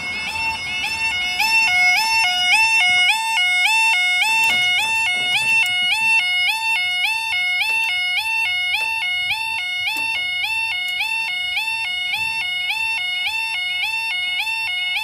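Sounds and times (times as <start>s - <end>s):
two-tone level crossing alarm: 0.0s - 15.0s.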